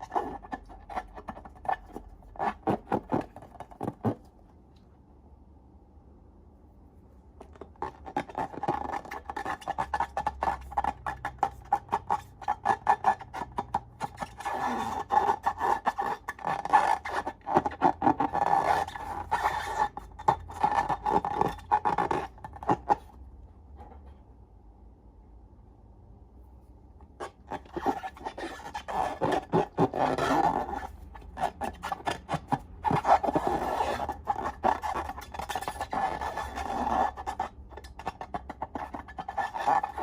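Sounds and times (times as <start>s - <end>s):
squeaky rubbery balloons: 0.0s - 4.4s, 7.7s - 23.1s, 27.2s - 40.0s.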